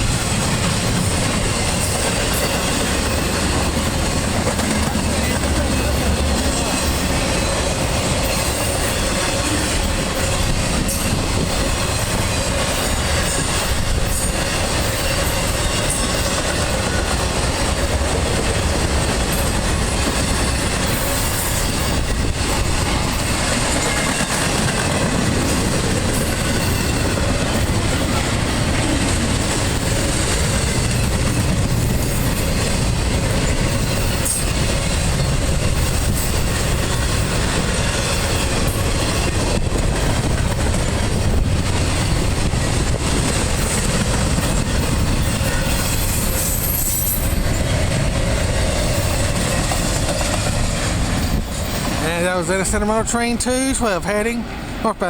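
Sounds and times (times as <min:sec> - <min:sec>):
steel wheels clacking over rail joints: 0:00.0 - 0:54.3
freight train rolling past: 0:00.0 - 0:55.0.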